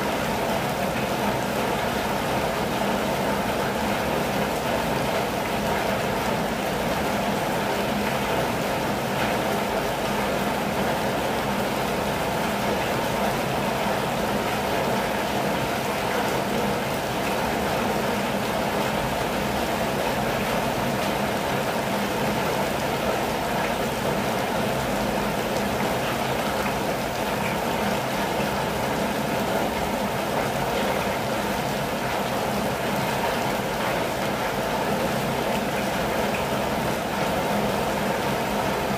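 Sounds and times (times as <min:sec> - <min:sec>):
rain on a vehicle roof: 0:00.0 - 0:38.9.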